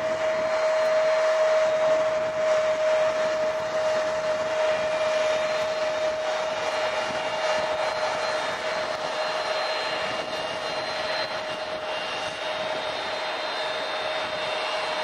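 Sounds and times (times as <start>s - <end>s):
jet engines whining at taxi power: 0.0s - 15.0s.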